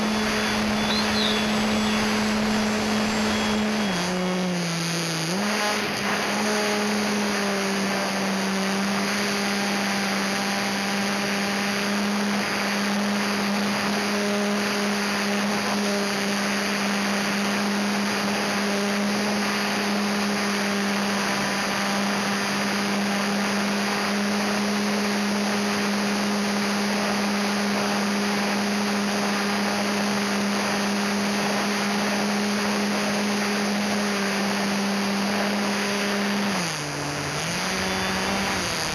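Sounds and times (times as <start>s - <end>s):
model plane electric motor: 0.0s - 38.9s.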